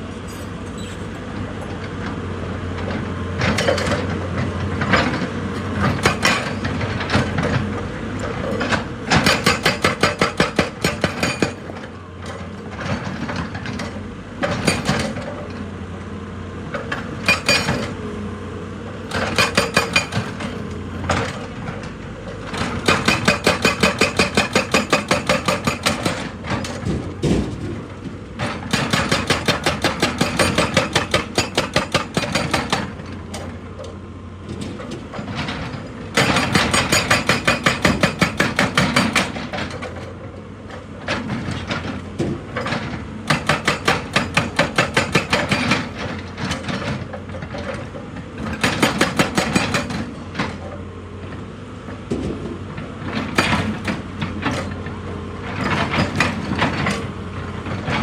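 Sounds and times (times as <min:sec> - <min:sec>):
hydraulic breaker hammering rock: 0:03.4 - 0:07.7, 0:08.3 - 0:15.5, 0:16.7 - 0:18.0, 0:19.1 - 0:33.5, 0:34.5 - 0:40.3, 0:41.1 - 0:50.8, 0:52.1 - 0:54.9, 0:55.5 - 0:58.0.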